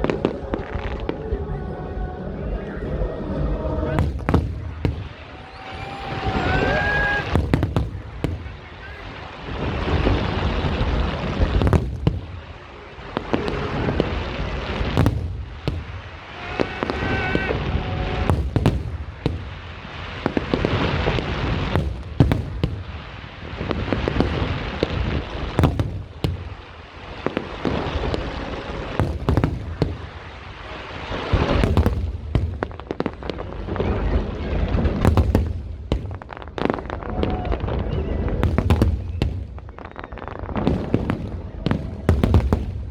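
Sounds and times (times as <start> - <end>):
fireworks crackling: 0.0 - 42.9
firework bangs: 3.6 - 42.9.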